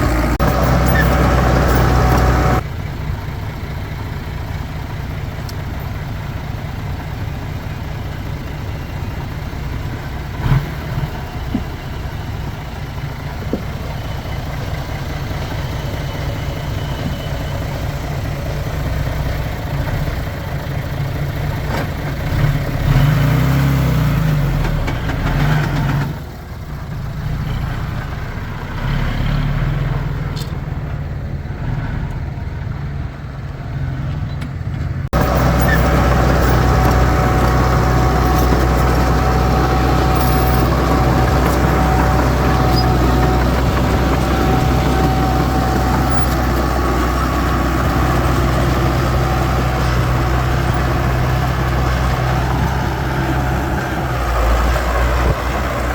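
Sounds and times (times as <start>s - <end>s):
heavy machinery diesel engine: 0.0s - 55.9s.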